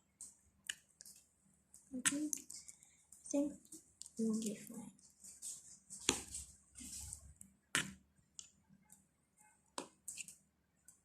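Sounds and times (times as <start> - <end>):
slime squelching while stirred: 0.0 - 11.0.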